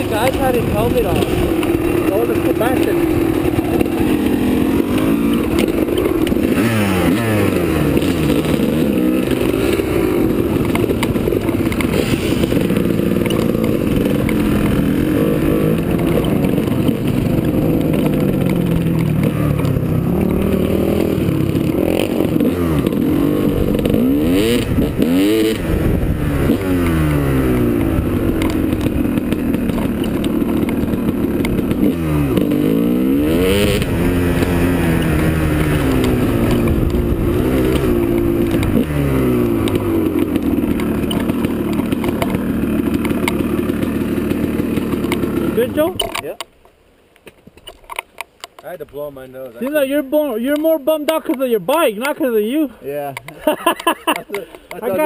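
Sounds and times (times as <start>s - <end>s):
dirt bike engine revving: 0.0s - 46.3s.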